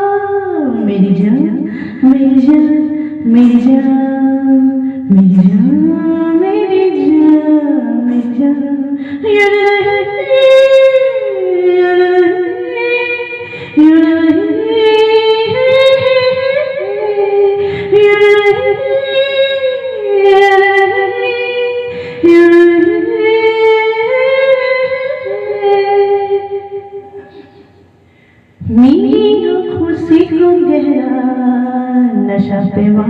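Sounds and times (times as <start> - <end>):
woman singing wordless melody: 0.0 - 27.3, 28.6 - 33.0.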